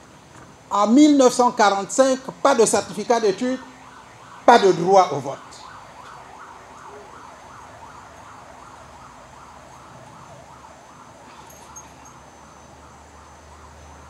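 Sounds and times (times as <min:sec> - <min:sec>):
siren yelping: 0:02.7 - 0:14.0.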